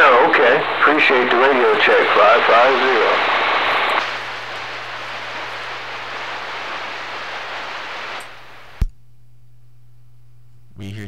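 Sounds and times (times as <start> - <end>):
faint steady hum: 0.0 - 11.0
radio static hiss: 0.0 - 11.0.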